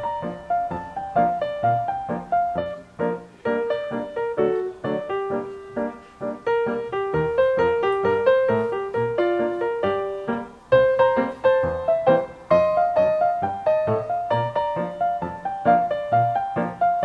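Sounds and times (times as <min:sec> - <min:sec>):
light piano melody: 0:00.0 - 0:17.0.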